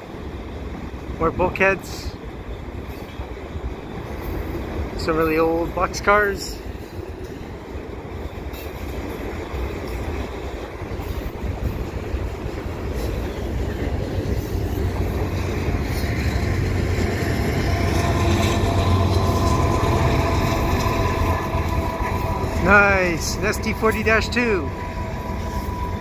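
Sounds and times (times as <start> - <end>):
diesel locomotive engine drone: 0.0 - 26.0
train wheels rumbling on rails: 0.0 - 26.0.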